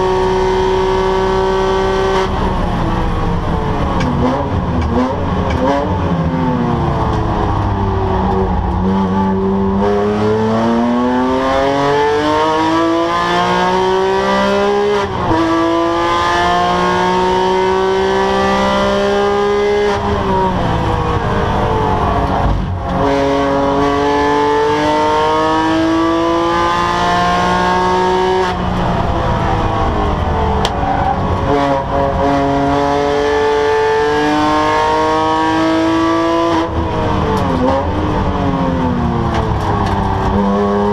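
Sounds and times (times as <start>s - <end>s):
sports car engine at full throttle: 0.0s - 40.9s.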